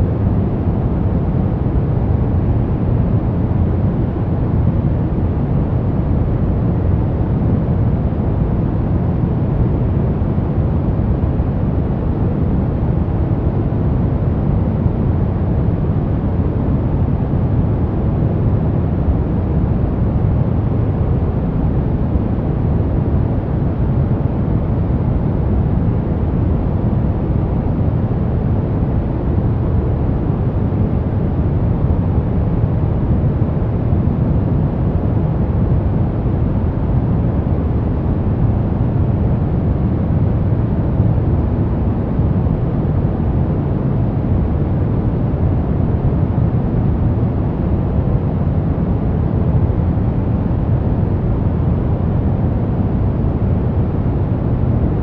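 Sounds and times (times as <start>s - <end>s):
deep white noise: 0.0s - 55.0s.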